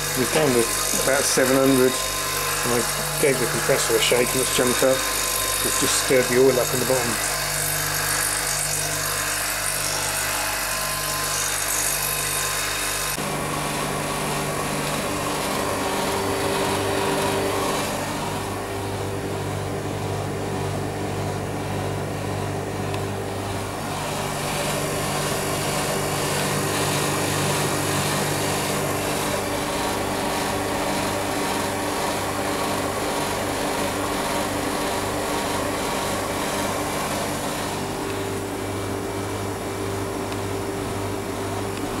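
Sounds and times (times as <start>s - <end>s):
condenser fan air noise: 0.0s - 7.1s, 13.2s - 42.0s
compressor humming: 0.0s - 42.0s.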